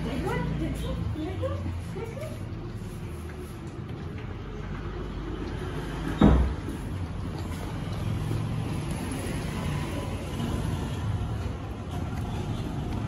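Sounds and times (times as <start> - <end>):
puppies eating from metal bowls: 0.0 - 13.0.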